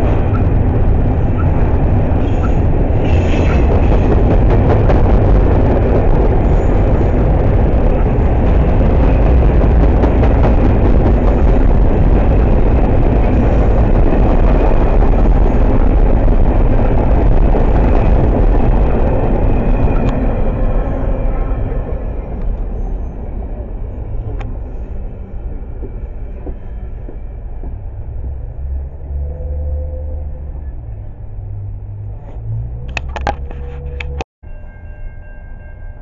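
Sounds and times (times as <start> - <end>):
train wheels on rail: 0.0 - 29.8.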